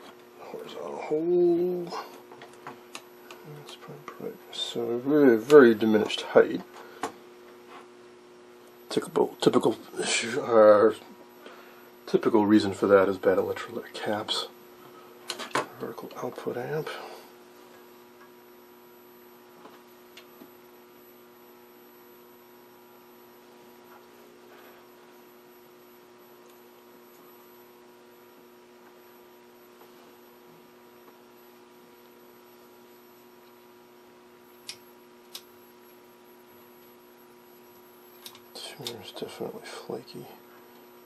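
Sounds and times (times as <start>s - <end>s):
television faint mains hum: 0.0s - 41.0s.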